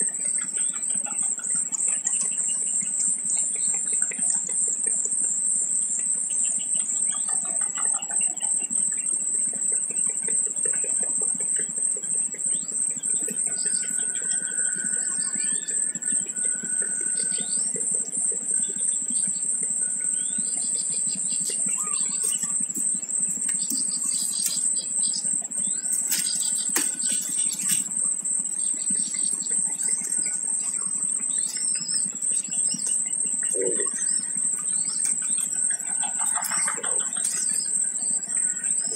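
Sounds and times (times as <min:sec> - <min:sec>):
steady high-pitched drone: 0:00.0 - 0:38.9
birds chirping: 0:06.2 - 0:38.9.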